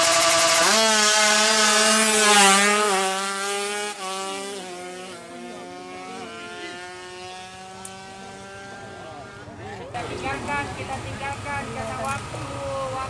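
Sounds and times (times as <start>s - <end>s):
two-stroke engine at high revs: 0.0s - 13.0s.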